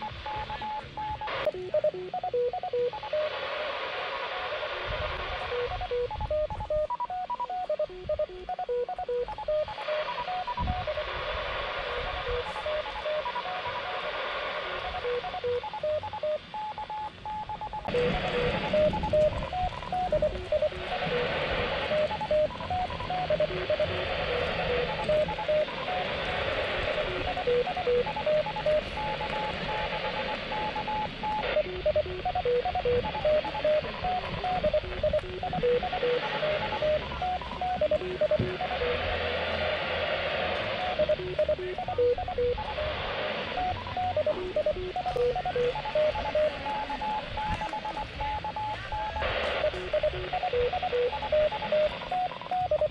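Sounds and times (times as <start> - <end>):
short radio beeps: 0.0 - 3.7, 4.3 - 39.7, 40.6 - 52.9
radio hiss: 0.0 - 52.9.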